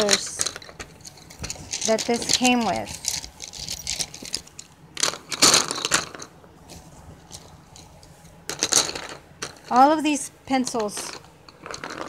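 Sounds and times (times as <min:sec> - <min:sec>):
wooden pencils clattering: 0:00.0 - 0:12.0.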